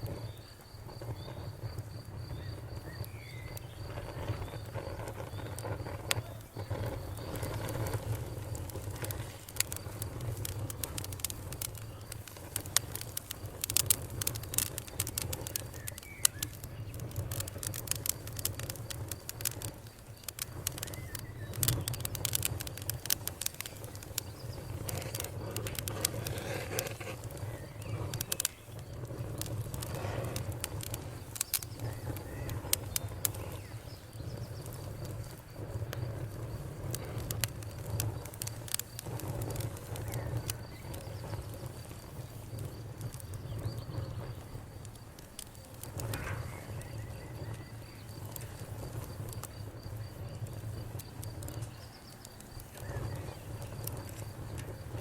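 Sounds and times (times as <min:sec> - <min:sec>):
birds calling faintly: 0:00.0 - 0:55.0
campfire crackling and popping: 0:00.0 - 0:55.0.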